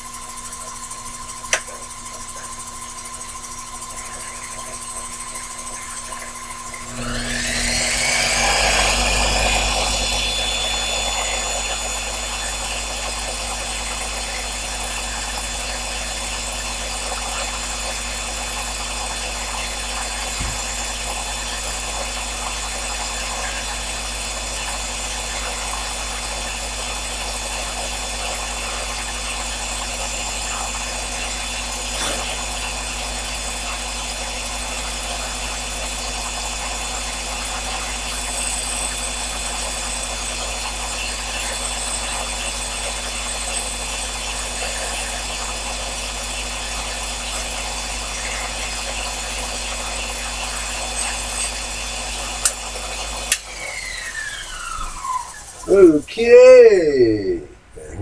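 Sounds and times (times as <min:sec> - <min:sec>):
lathe motor whining: 0:01.1 - 0:57.5.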